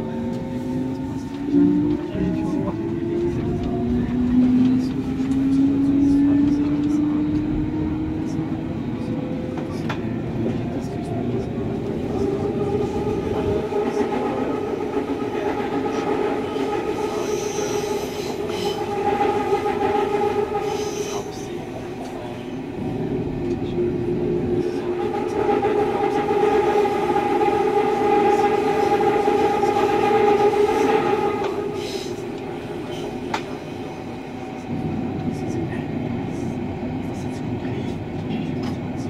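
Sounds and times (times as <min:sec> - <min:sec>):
electric train rumble with whine: 0:00.0 - 0:39.0.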